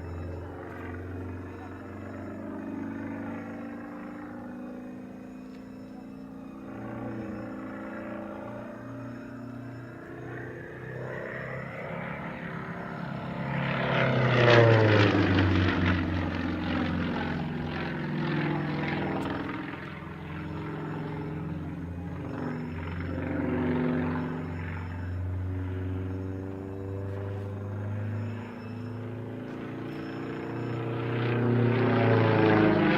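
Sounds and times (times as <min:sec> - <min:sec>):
propeller aircraft flying past: 0:00.0 - 0:32.9.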